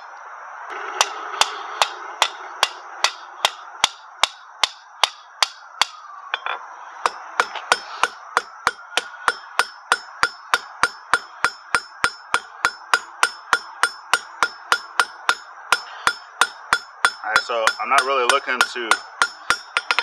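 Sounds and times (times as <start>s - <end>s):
hammer striking steel on anvil: 0.8s - 20.0s.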